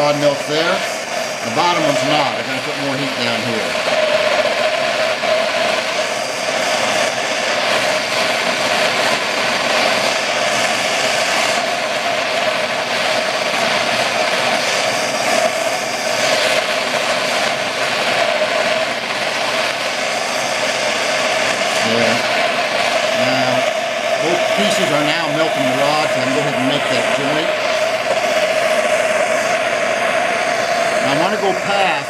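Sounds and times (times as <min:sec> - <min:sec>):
propane torch burning: 0:00.0 - 0:32.0.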